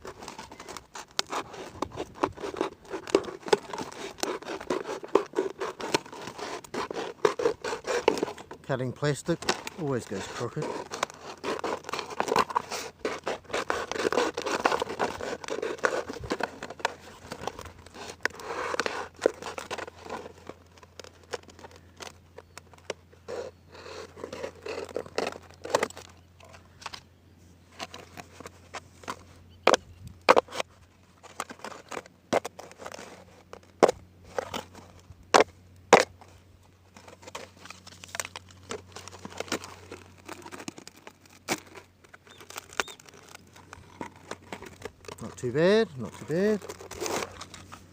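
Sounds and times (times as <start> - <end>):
plastic crinkling and scraping: 0.0 - 47.9.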